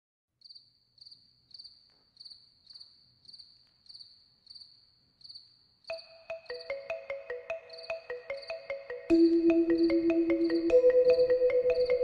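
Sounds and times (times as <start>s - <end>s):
high-pitched cricket-like chirping: 0.4s - 12.0s.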